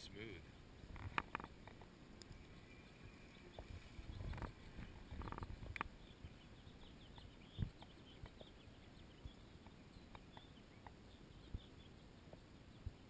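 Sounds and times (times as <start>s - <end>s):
soft ticks: 0.9s - 13.0s.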